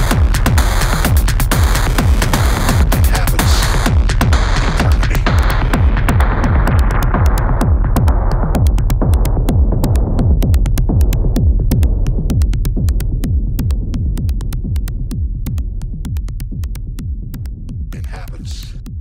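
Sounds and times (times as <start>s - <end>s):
industrial techno music: 0.0s - 19.0s.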